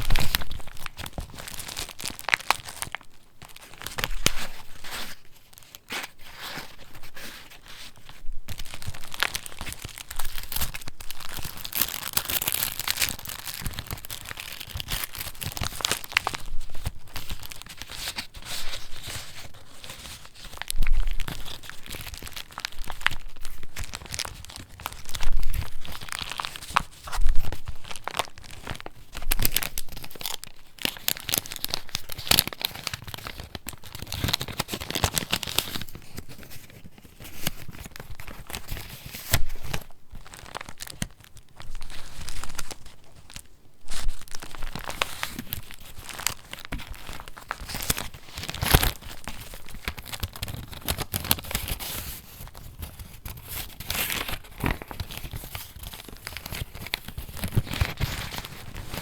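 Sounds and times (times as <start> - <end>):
paper rustling and crinkling: 0.0 - 59.0.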